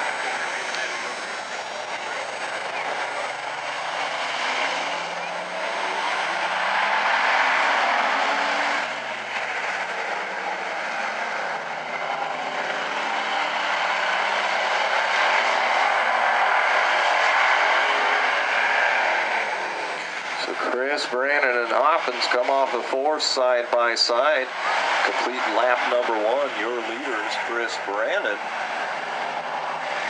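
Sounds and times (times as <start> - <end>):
race car engines roaring: 0.0 - 30.0.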